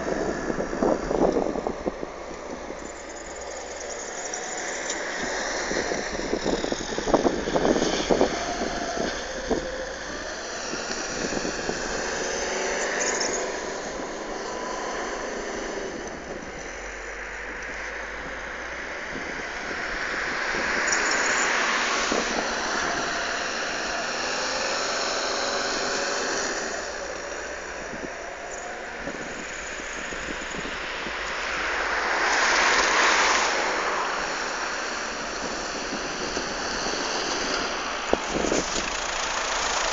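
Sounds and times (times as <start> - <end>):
car engine revving: 0.0 - 39.9
steady rushing noise: 0.0 - 39.9.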